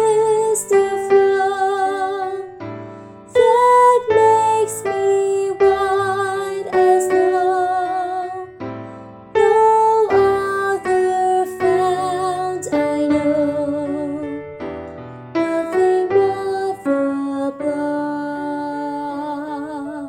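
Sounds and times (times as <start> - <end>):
soprano singing a hymn: 0.0 - 14.8, 15.4 - 20.0
piano accompaniment: 0.0 - 20.0.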